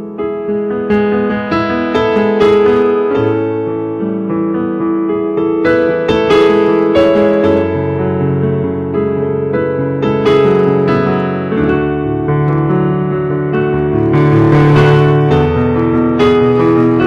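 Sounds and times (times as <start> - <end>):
piano playing sustained chords: 0.0 - 17.0.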